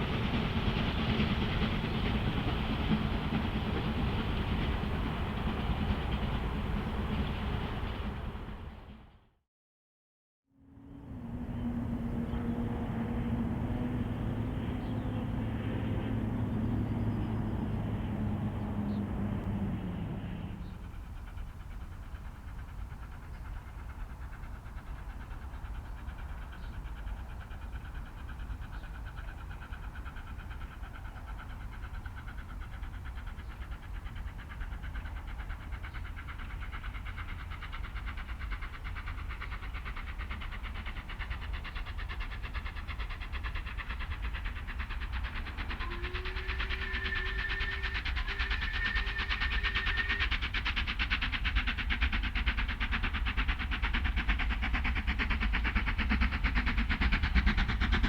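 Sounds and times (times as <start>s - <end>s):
steam train running: 0.0s - 9.2s, 10.7s - 58.0s.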